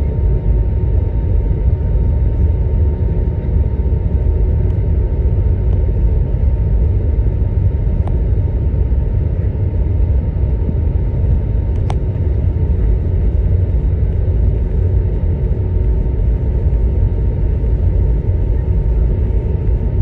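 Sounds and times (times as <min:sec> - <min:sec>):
aircraft cabin low rumble: 0:00.0 - 0:20.0
faint steady hum: 0:00.0 - 0:20.0.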